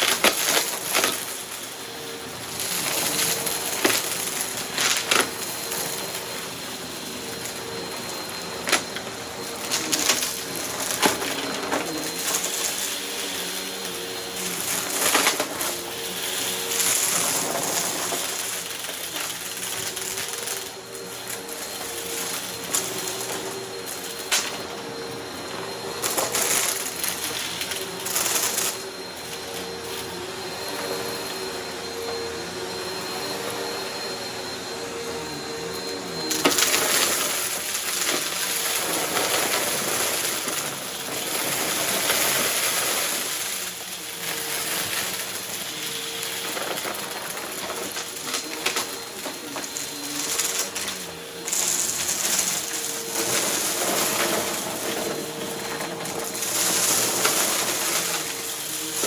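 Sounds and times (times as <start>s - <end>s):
debris crackling in vacuum: 0.0s - 31.5s, 35.4s - 59.0s
upright vacuum cleaner running: 0.0s - 59.0s.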